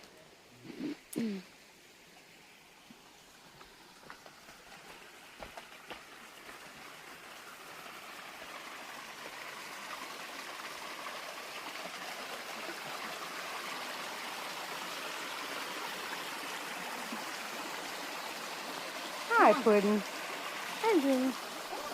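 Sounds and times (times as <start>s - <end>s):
stream water rushing: 0.0s - 21.9s.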